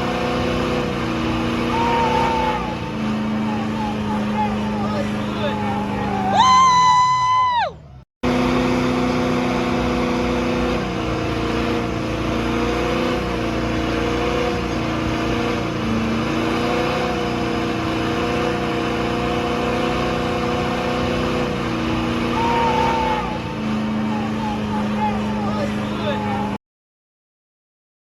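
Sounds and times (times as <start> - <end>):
truck engine running hard: 0.0 - 26.6.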